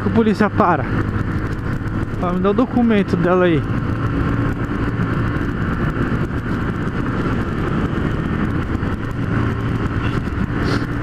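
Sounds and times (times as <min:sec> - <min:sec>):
motorcycle engine running: 0:00.0 - 0:11.0
wind noise on microphone: 0:00.8 - 0:11.0.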